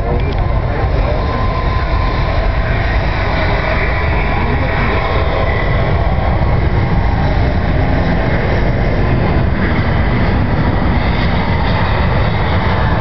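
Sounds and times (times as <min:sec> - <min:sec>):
jet engines rumbling on takeoff: 0:00.0 - 0:13.0.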